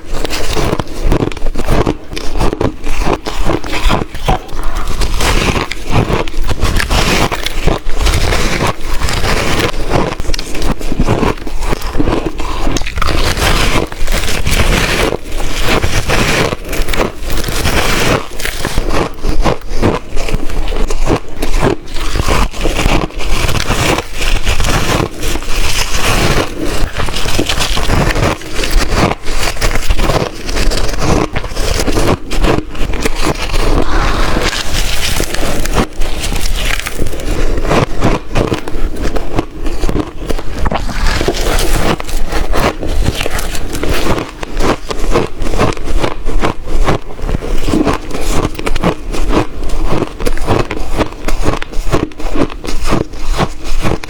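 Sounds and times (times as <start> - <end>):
ice chunks being chewed: 0.0 - 54.0.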